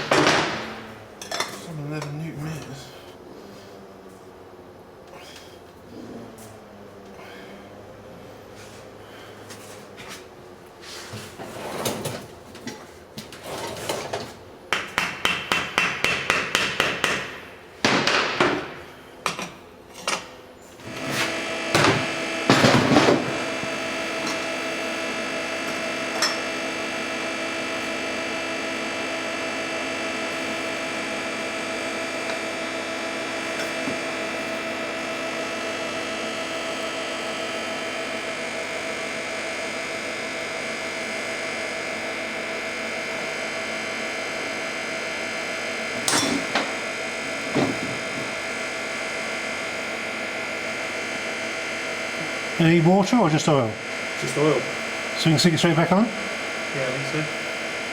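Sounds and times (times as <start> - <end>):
steady mechanical hum: 0.0 - 57.9.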